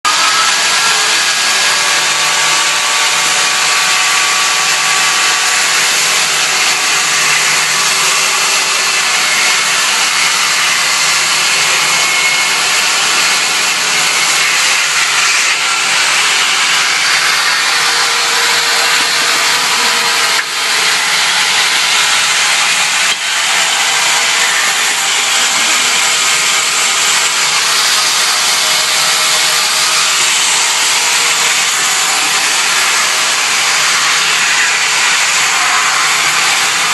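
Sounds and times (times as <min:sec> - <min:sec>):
band saw cutting wood: 0:00.0 - 0:36.9.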